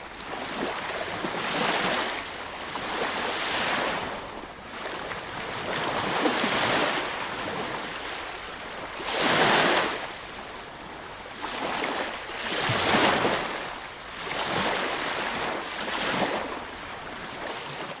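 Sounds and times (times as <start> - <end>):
sea waves breaking on beach: 0.0 - 18.0.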